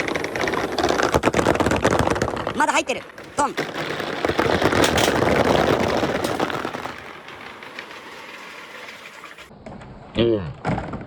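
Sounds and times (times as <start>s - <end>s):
marbles clattering down wooden chute: 0.0s - 9.5s.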